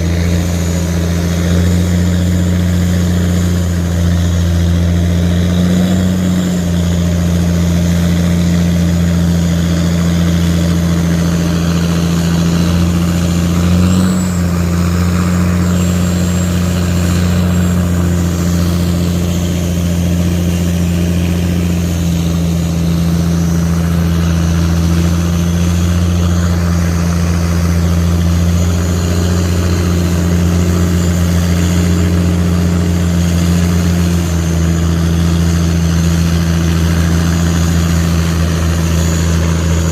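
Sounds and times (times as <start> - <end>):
boat diesel engine droning: 0.0 - 39.9.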